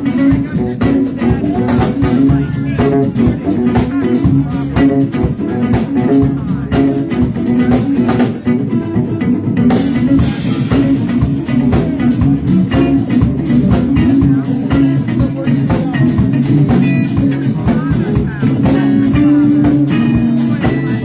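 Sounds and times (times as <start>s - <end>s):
bass guitar: 0.0s - 21.0s
drum kit beat: 0.0s - 21.0s
electric guitar: 0.0s - 21.0s.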